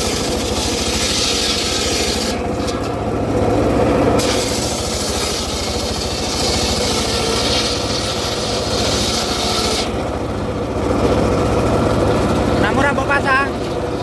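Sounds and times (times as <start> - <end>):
circular saw cutting wood: 0.0 - 14.0
engine running: 0.0 - 14.0.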